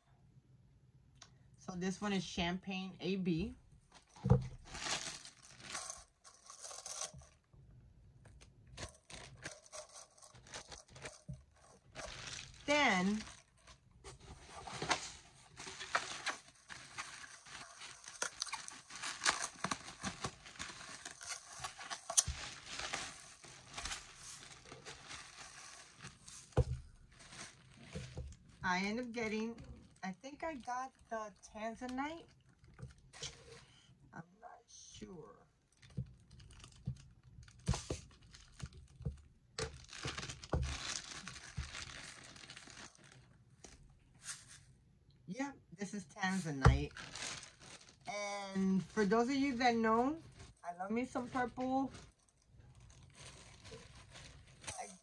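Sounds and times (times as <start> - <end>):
bubble wrap crinkling: 3.9 - 7.6, 8.2 - 33.8, 35.7 - 44.7, 46.3 - 55.0.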